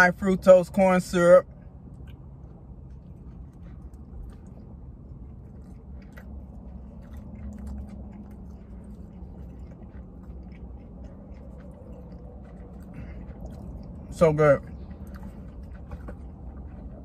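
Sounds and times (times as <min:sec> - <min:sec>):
low steady hum: 0:00.0 - 0:17.0
person chewing with mouth closed: 0:01.5 - 0:17.0.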